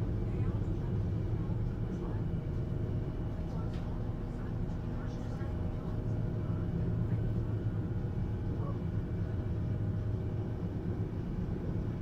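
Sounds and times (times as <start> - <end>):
train rumble inside cabin: 0.0 - 12.0.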